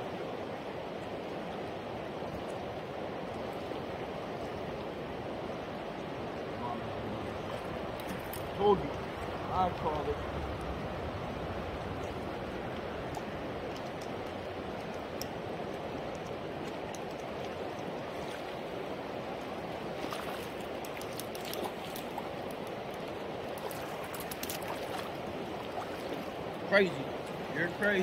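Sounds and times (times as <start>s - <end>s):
river current rushing: 0.0s - 28.0s.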